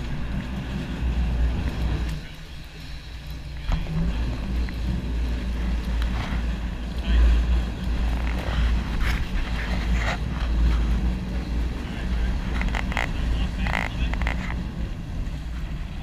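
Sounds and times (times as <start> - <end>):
boat engine running: 0.0 - 16.0
water splashing and churning: 0.0 - 16.0
wind rumbling on microphone: 0.0 - 16.0.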